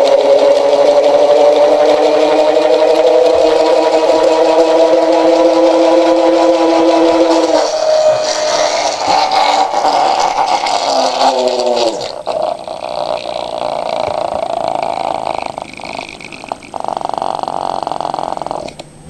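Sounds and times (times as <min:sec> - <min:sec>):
rattling whirr of spinning rotor: 0:00.0 - 0:18.7.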